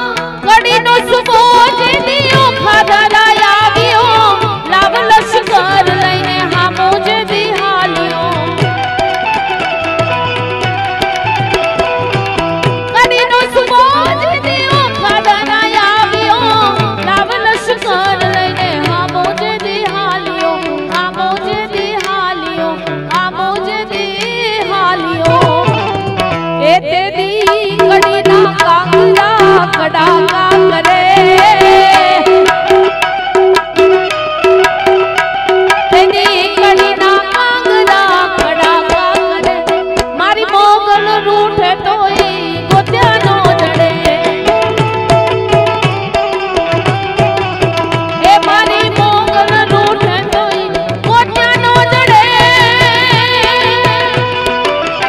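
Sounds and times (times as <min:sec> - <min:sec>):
harmonium melody: 0:00.0 - 0:55.0
tabla playing: 0:00.0 - 0:55.0.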